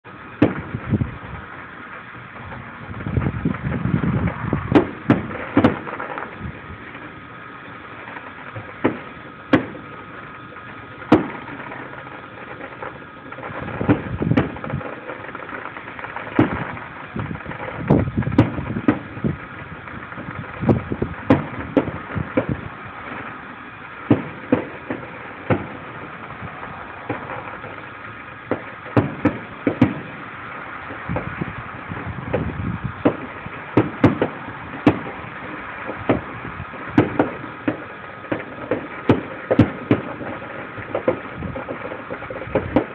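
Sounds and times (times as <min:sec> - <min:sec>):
fireworks bangs: 0:00.0 - 0:42.9
background rumble: 0:00.1 - 0:42.9.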